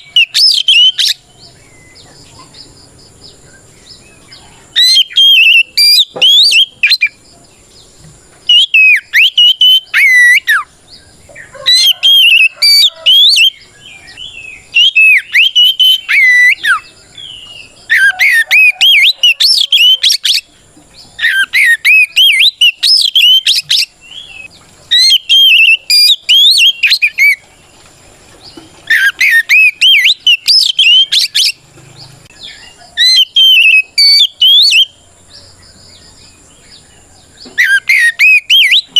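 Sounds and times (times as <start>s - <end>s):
bird singing whistled song: 0.0s - 7.2s, 8.5s - 27.6s, 28.4s - 38.9s.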